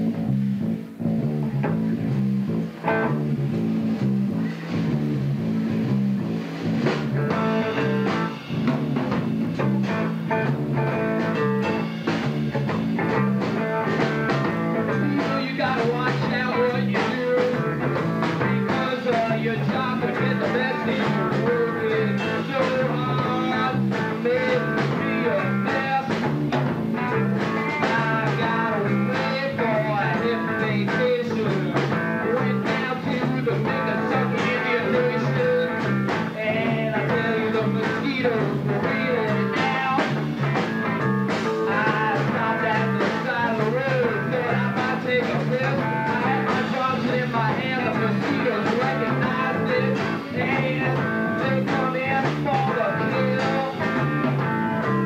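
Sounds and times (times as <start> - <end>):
blues-rock band playing live: 0.0 - 55.0
electric guitar: 0.0 - 55.0.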